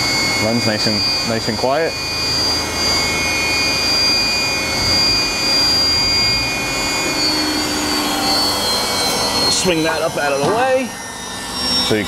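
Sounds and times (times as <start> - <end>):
grinder high-pitched whine: 0.0 - 12.0.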